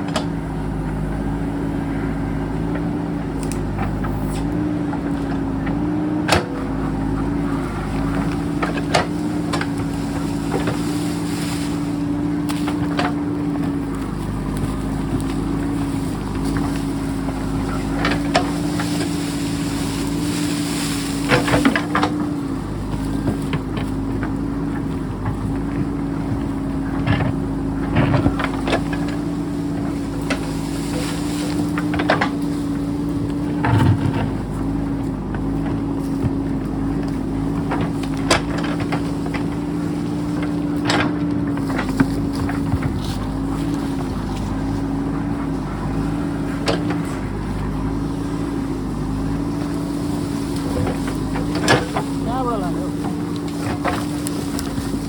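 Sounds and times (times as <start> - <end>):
diesel engine running: 0.0 - 55.0
digging knocks and clanks: 0.0 - 55.0.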